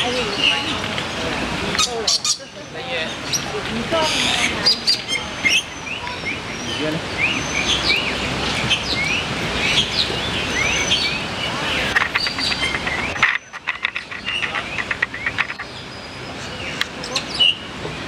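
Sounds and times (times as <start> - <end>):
birds chirping: 0.0 - 18.0
steady background hiss: 0.0 - 18.0.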